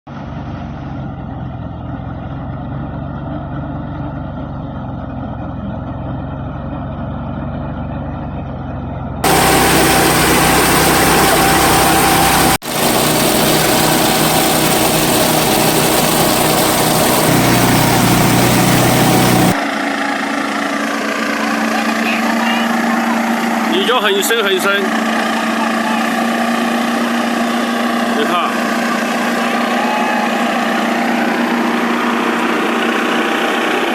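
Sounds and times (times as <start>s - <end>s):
harvester engine running: 0.3s - 33.9s.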